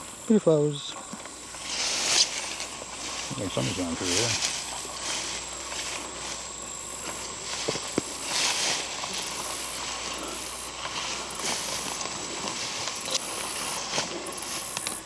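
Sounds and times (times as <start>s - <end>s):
vegetation rustling against clothing: 0.0s - 15.0s
footsteps in undergrowth: 1.0s - 15.0s.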